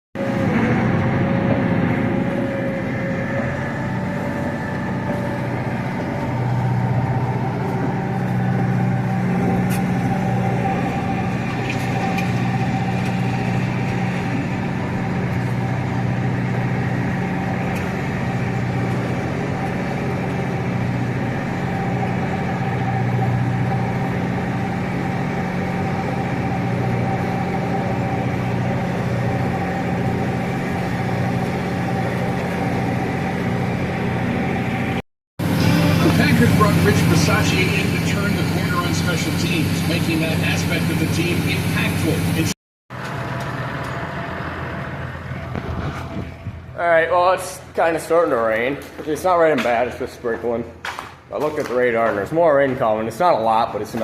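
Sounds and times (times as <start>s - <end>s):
farm machinery engine drone: 0.2s - 54.0s.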